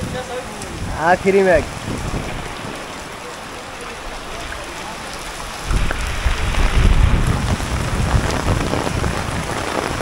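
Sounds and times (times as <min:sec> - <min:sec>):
rain falling on a wet street: 0:00.0 - 0:10.0.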